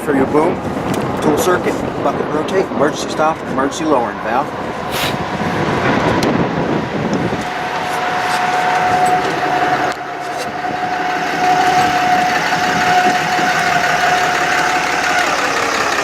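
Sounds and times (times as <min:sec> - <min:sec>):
truck engine running: 0:00.0 - 0:16.0
hydraulic system whine: 0:00.6 - 0:16.0.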